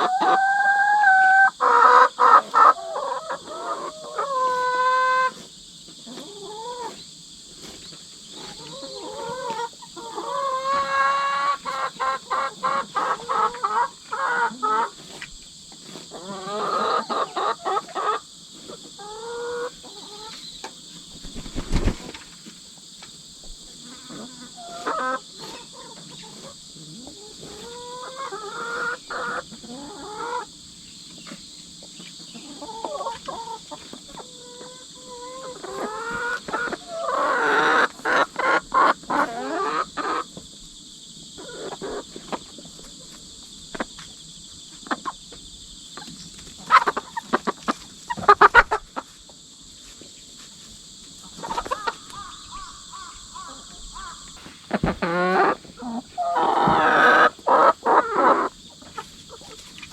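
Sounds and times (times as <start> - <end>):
hens clucking: 0.0 - 40.6, 41.3 - 44.2, 44.8 - 45.4, 46.0 - 49.4, 51.0 - 59.9
insects chorus: 0.0 - 59.9.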